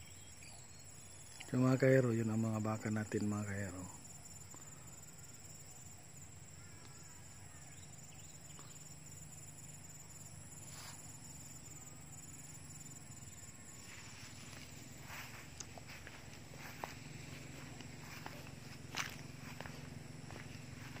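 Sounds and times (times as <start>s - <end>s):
insects chirring: 0.0s - 21.0s
low steady hum: 0.0s - 21.0s.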